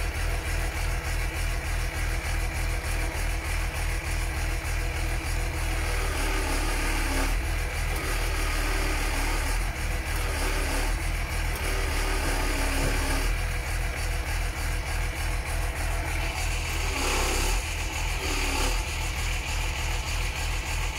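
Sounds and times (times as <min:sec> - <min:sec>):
diesel truck engine idling: 0:00.0 - 0:20.9.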